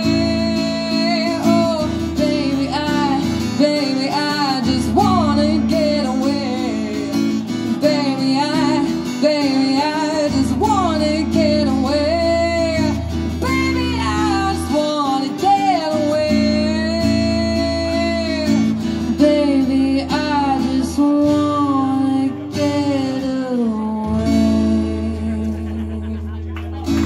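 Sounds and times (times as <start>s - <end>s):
woman singing: 0.0s - 26.2s
acoustic guitar chords: 0.0s - 27.0s.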